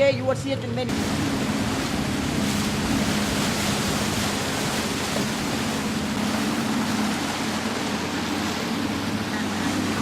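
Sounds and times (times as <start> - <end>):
boat motor humming: 0.0 - 10.0
rushing water: 0.0 - 10.0
wind: 0.0 - 10.0.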